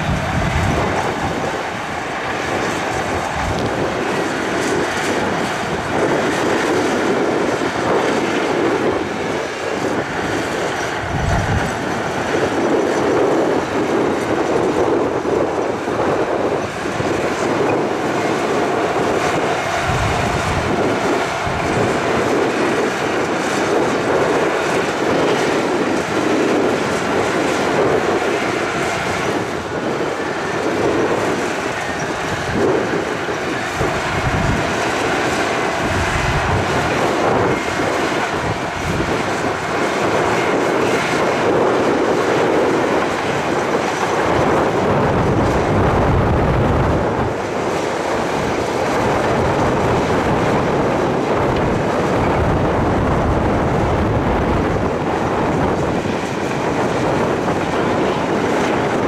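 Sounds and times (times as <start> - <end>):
crawler tracks clattering and squealing: 0.0 - 46.1, 46.8 - 53.8, 54.5 - 59.0
diesel engines under load: 0.0 - 59.0.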